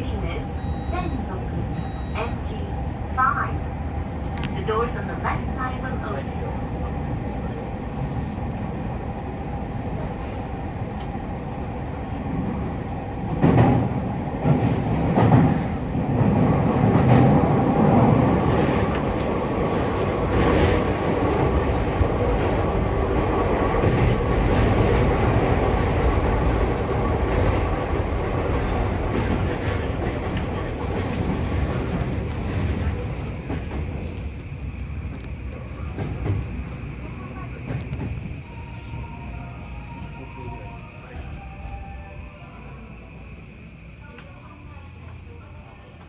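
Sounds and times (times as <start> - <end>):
electric train rumbling: 0.0 - 46.0.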